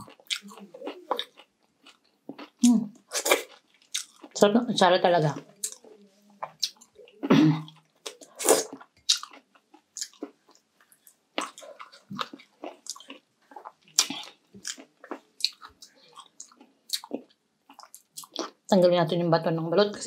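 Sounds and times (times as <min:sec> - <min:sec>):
wet chewing and lip smacking: 0:00.0 - 0:04.4, 0:05.6 - 0:18.6.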